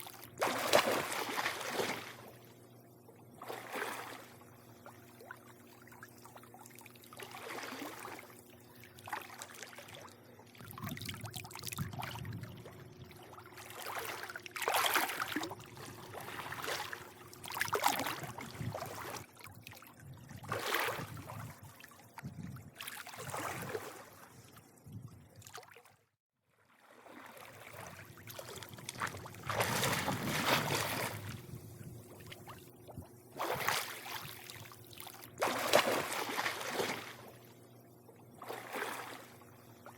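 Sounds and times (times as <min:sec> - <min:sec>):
pool water lapping and sloshing: 0:00.0 - 0:39.9.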